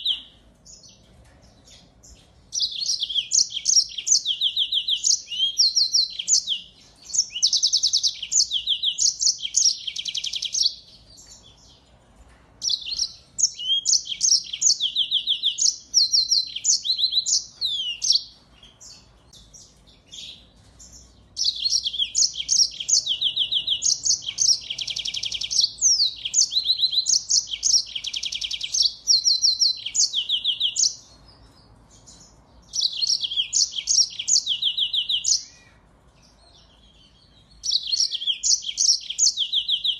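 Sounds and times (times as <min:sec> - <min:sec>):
songbird twittering: 0:00.0 - 0:01.0, 0:01.6 - 0:11.7, 0:12.6 - 0:35.8, 0:36.4 - 0:39.9.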